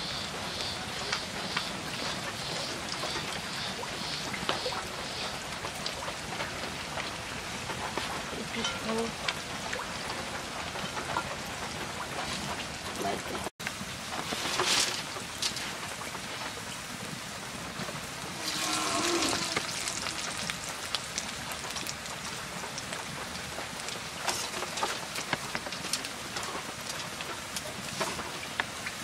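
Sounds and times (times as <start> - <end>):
food deep-frying in oil: 0.0 - 29.0.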